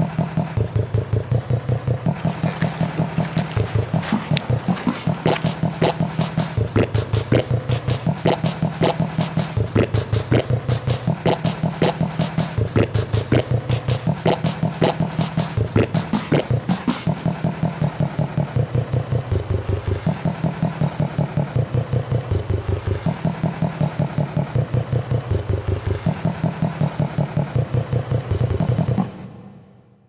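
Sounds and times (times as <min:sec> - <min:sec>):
looped buzzing sample remix: 0:00.0 - 0:29.3.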